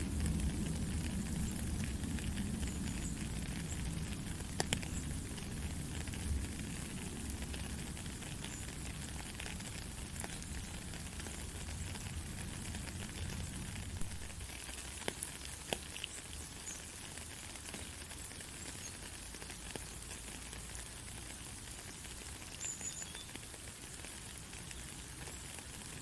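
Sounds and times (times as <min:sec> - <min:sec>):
sharp water drips: 0:00.0 - 0:26.0
steady rain falling: 0:00.0 - 0:26.0.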